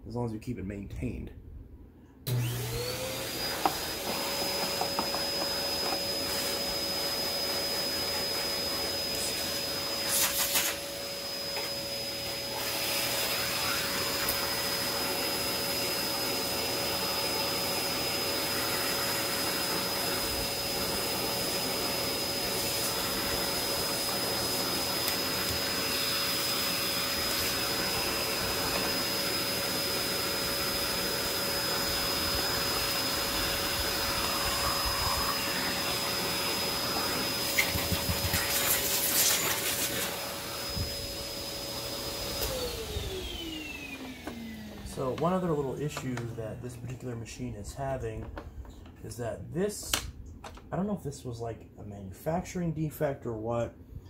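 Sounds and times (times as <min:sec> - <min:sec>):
vacuum cleaner running: 0:02.2 - 0:47.5.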